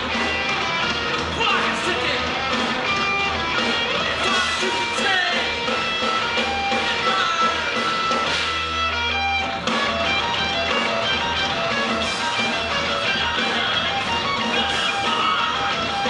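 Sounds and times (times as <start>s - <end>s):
live noise-rock band playing: 0.0s - 16.0s.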